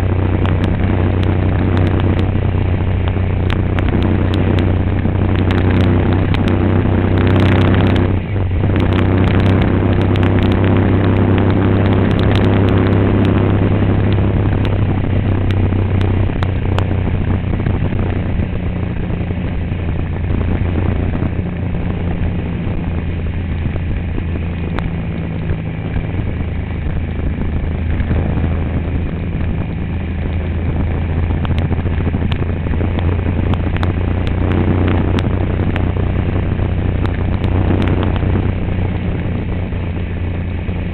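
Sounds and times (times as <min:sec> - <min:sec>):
road and wind noise: 0:00.0 - 0:40.9
vehicle engine droning: 0:00.0 - 0:40.9.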